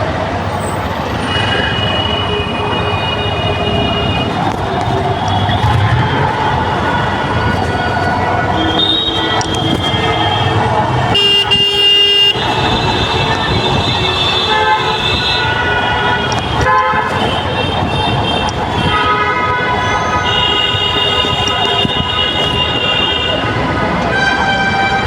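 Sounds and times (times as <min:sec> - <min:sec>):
road traffic noise: 0:00.0 - 0:25.0
vehicle horns honking: 0:00.6 - 0:25.0.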